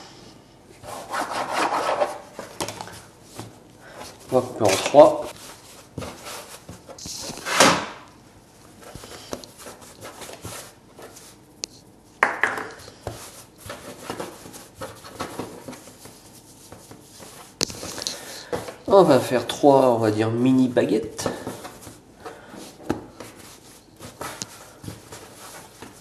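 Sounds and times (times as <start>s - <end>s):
hands rubbing and patting dough: 1.7s - 7.6s, 8.4s - 19.7s, 20.6s - 26.0s.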